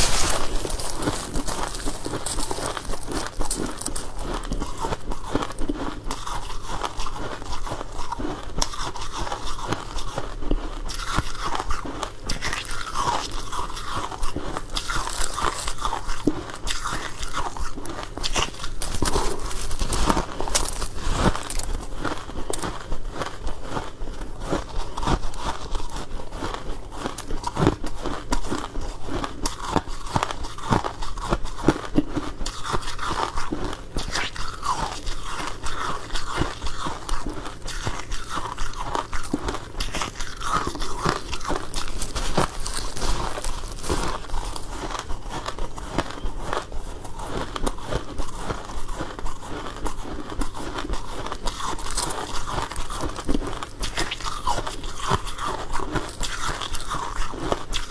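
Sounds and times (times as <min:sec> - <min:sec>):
crunching of frost being chewed: 0:00.0 - 0:57.9.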